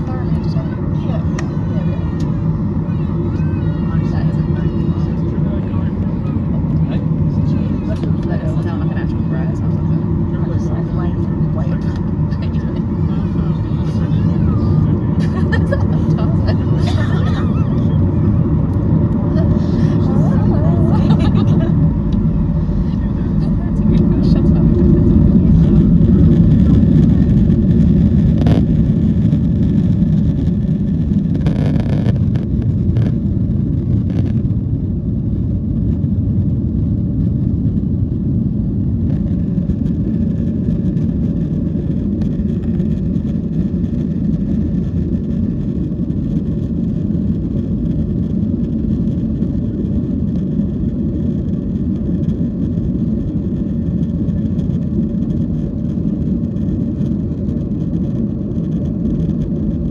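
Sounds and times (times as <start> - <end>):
airplane cabin engine noise: 0.0 - 59.9.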